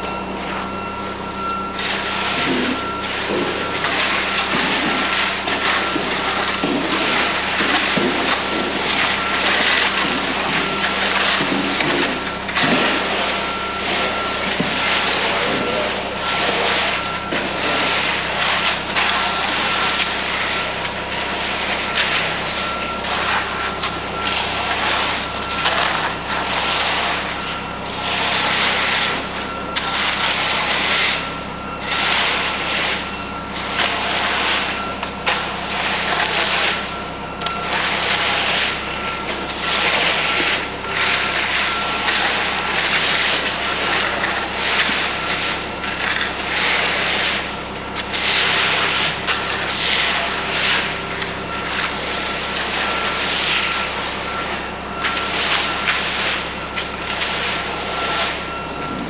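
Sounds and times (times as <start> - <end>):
thin steady whine: 0.0 - 59.0.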